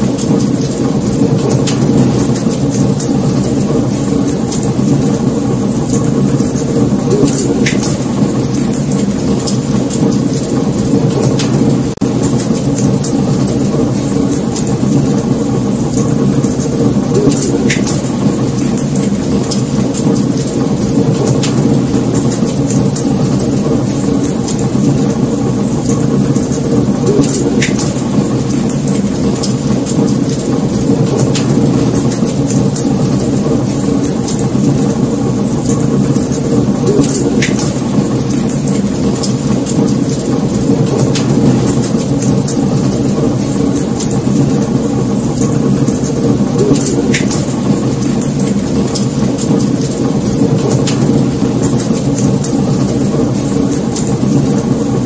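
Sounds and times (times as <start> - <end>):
burning logs crackling and popping: 0.0 - 55.0
flames rushing: 0.0 - 55.0.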